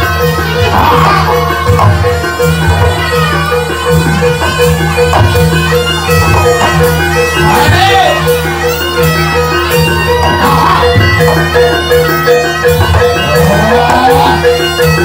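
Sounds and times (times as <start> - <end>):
reedy wind instrument tones: 0.0 - 15.0
traditional percussion beat: 0.0 - 15.0.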